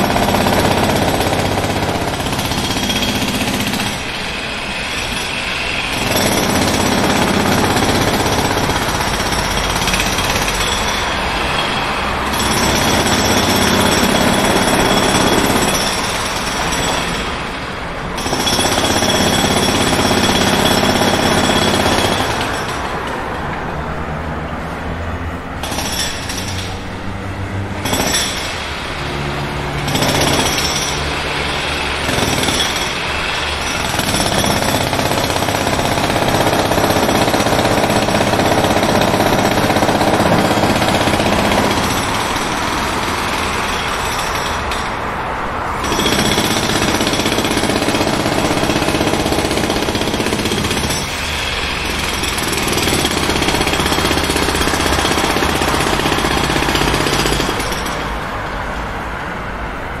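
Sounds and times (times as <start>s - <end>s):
jackhammer breaking pavement: 0.0s - 17.6s, 18.2s - 23.2s, 25.6s - 26.9s, 27.8s - 45.0s, 45.8s - 58.2s.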